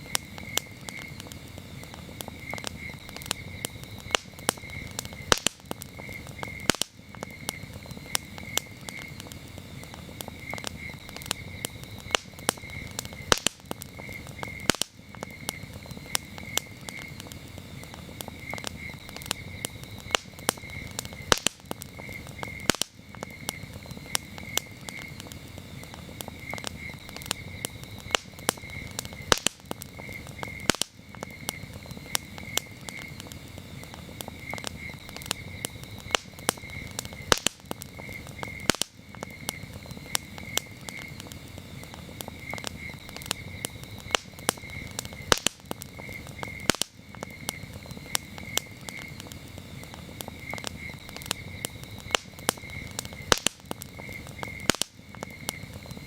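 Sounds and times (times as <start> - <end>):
campfire crackling and popping: 0.0 - 56.0
crickets chirping: 0.0 - 56.0.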